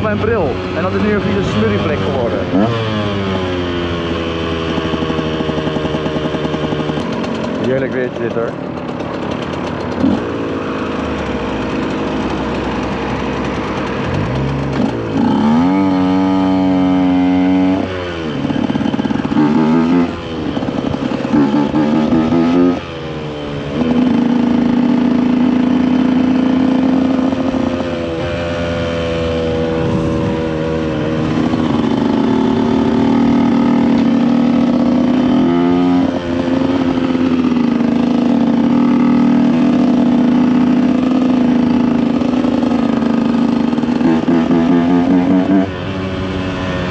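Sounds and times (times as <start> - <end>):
two-stroke engine revving through gears: 0.0 - 46.9.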